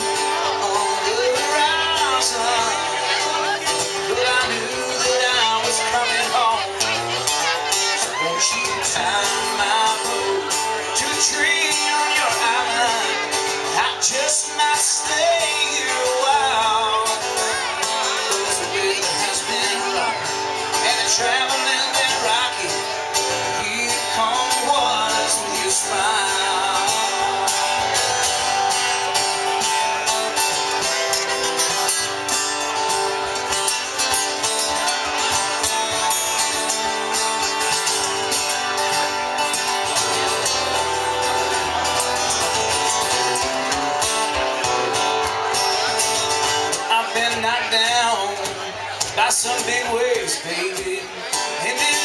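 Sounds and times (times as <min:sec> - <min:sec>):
acoustic guitars playing country: 0:00.0 - 0:52.0.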